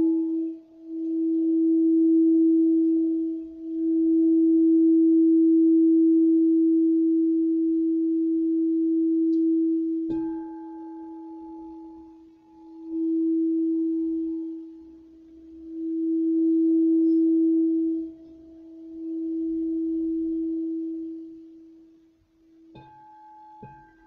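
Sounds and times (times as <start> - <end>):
singing bowl ringing: 0.0 - 21.6, 22.7 - 24.0.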